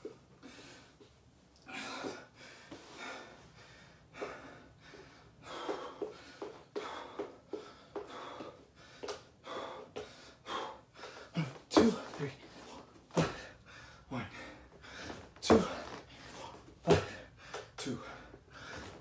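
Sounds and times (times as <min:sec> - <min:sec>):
man breathing heavily: 0:00.0 - 0:19.0.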